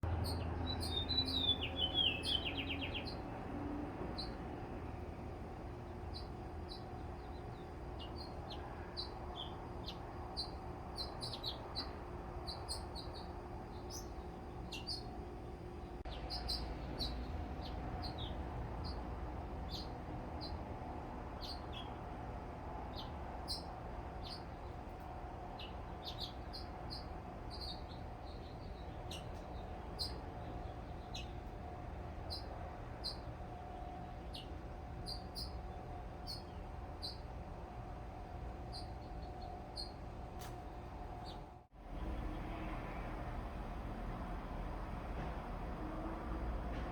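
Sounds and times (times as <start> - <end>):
small birds chirping: 0.1 - 22.1, 22.9 - 37.5, 38.6 - 41.5.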